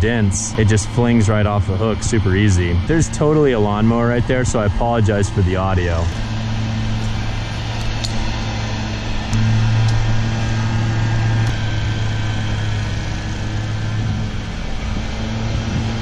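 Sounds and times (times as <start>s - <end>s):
lawnmower engine running: 0.0s - 16.0s.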